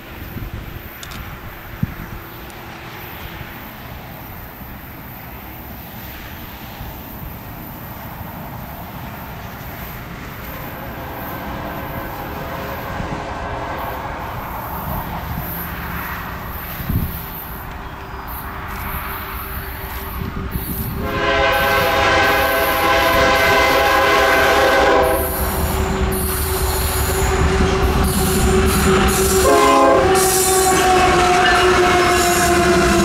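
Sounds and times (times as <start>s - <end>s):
diesel locomotive rumble: 0.0s - 33.0s.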